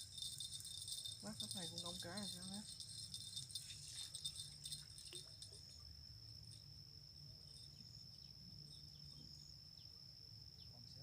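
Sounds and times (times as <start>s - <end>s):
light clicks and jingles: 0.0s - 8.9s
high-pitched insect trill: 0.0s - 11.0s.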